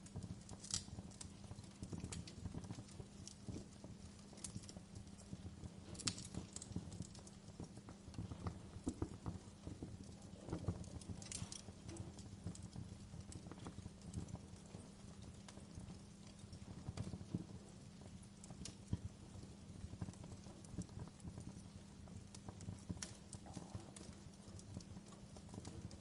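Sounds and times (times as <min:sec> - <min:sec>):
fireplace fire crackling: 0:00.0 - 0:26.0
steady low hum: 0:00.0 - 0:26.0.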